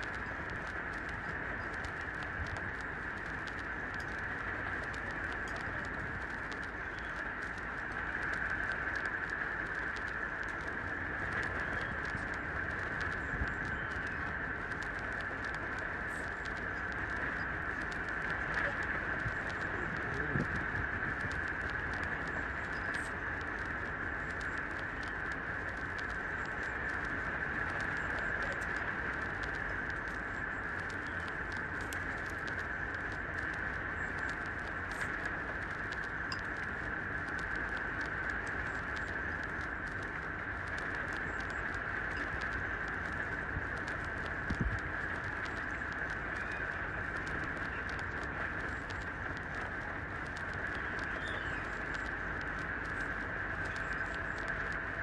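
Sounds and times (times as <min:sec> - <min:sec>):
high-pitched background hiss: 0:00.0 - 0:55.0.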